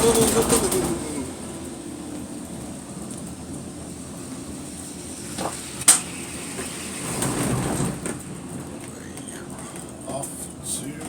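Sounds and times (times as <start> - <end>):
gondola cabin hum: 0.0 - 11.0
rumbling rattle: 0.0 - 11.0.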